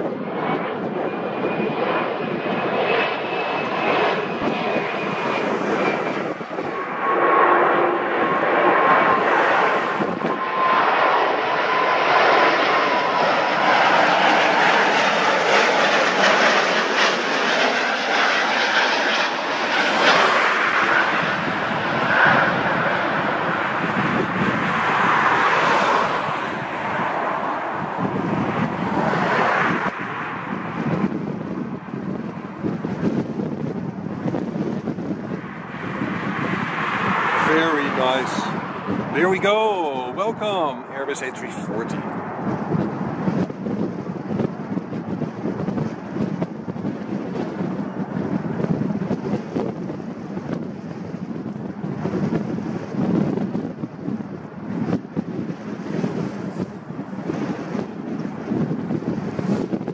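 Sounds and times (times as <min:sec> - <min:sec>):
jet engine rumble with whine: 0:00.0 - 0:59.9
wind buffeting microphone: 0:00.0 - 0:59.9.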